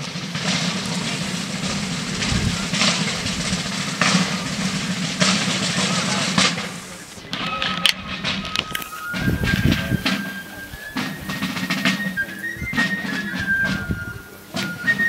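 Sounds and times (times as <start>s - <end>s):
field drums rolling: 0.0s - 15.0s.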